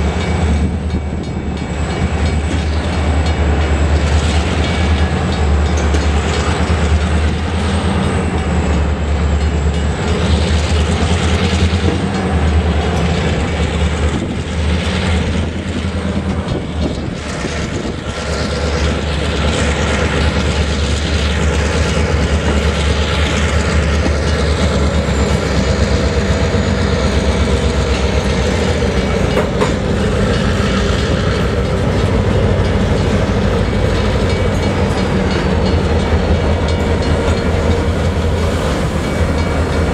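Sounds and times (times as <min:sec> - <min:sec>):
diesel locomotive engine rumble: 0:00.0 - 0:39.9
rail cars rolling on rails: 0:00.0 - 0:39.9.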